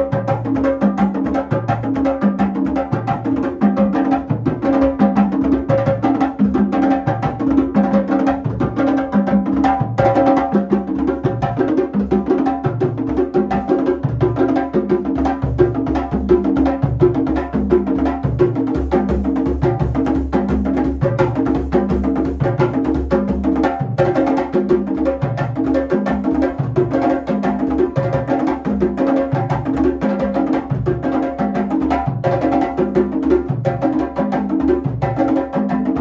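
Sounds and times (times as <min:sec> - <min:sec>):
drum and percussion music: 0:00.0 - 0:36.0.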